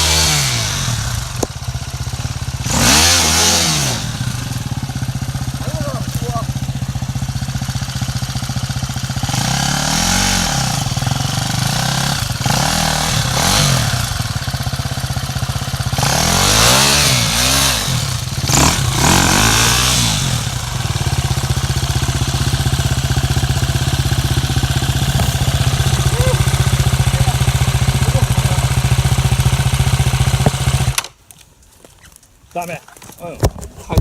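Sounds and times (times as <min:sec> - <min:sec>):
vehicle engine revving: 0:00.0 - 0:31.0.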